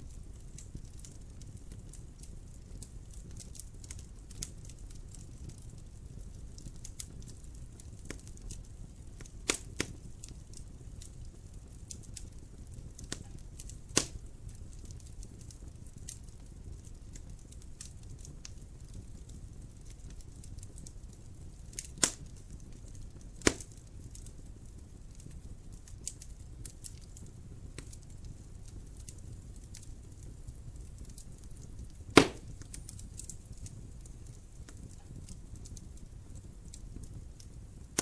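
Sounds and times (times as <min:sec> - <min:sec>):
wood fire crackling: 0:00.0 - 0:38.0
fire sharp pops: 0:00.2 - 0:38.0.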